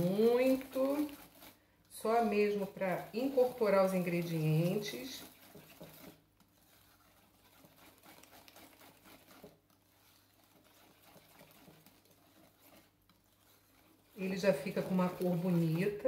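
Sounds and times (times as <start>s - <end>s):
whisk beating batter in bowl: 0.0s - 16.0s.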